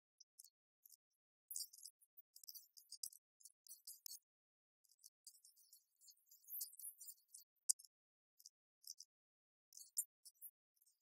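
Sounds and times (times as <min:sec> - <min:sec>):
faint high-pitched ticks: 0:00.1 - 0:11.0.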